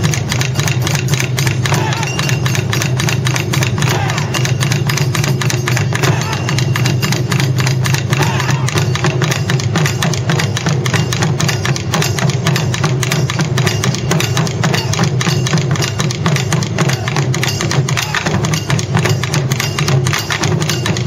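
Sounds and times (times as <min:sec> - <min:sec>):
barrel drums beaten fast: 0:00.0 - 0:21.0.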